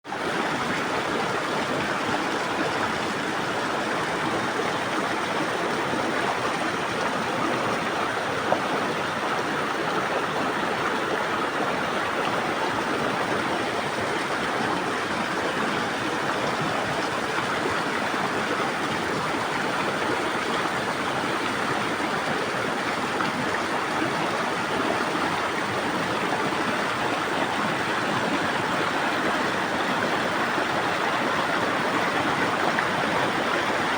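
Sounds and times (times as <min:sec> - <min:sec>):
river water rushing over rocks: 0:00.1 - 0:33.9.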